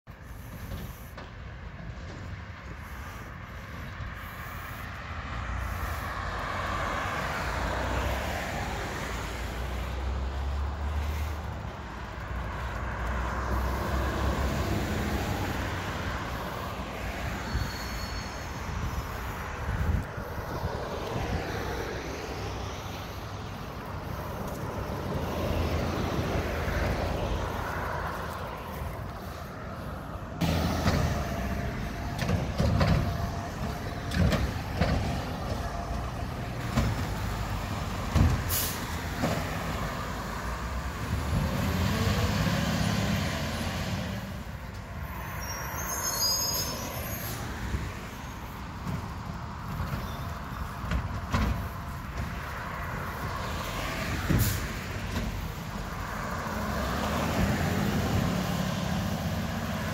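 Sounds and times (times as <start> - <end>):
cars passing by: 0.0 - 59.9.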